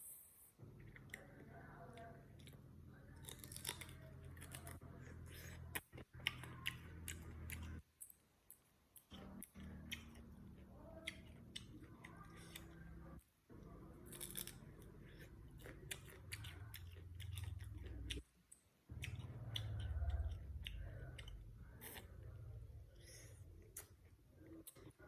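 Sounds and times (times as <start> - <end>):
low steady hum: 0.0 - 25.0
crunching and chewing food: 0.6 - 25.0.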